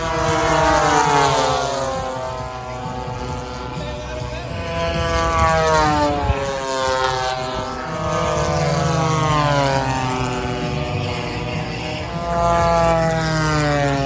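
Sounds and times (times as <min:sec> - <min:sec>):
model plane propeller engines passing: 0:00.0 - 0:14.0.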